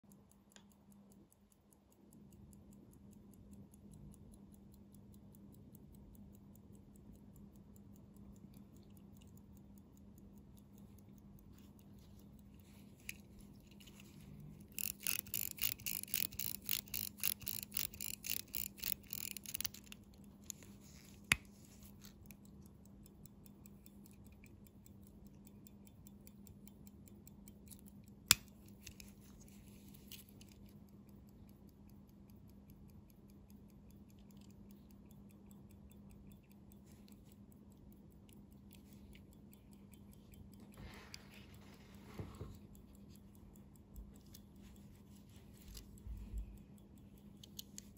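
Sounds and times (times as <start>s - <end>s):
pocket watch ticking fast: 0.0s - 47.9s
watch winding ratchet clicks: 0.1s - 41.9s, 42.5s - 47.9s.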